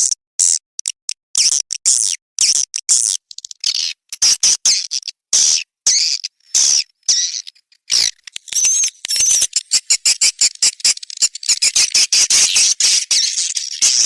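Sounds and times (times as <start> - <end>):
swiftlet chirping twitters: 2.5 - 14.0.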